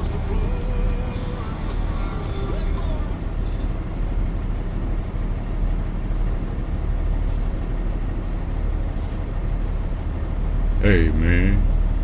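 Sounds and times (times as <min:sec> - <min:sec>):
road noise: 0:00.0 - 0:12.0
vehicle engine rumbling: 0:00.0 - 0:12.0.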